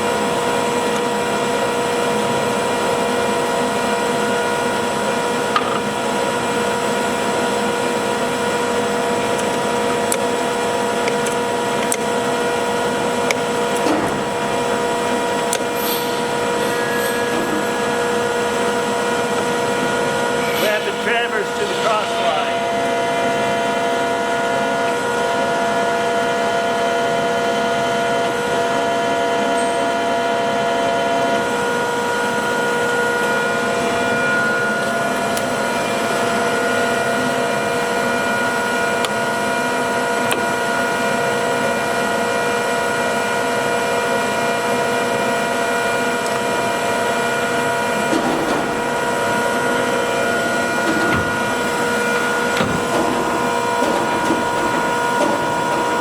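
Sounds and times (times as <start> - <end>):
lathe machine whine: 0.0 - 56.0.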